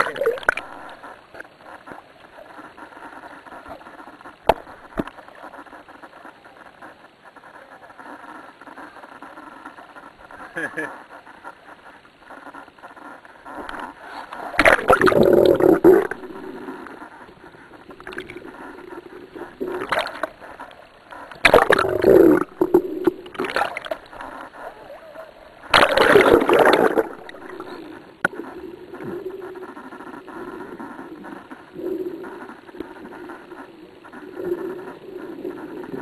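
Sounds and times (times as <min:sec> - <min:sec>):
faint low hum: 0:00.0 - 0:36.0
underwater bubbling and gurgling: 0:00.0 - 0:36.0.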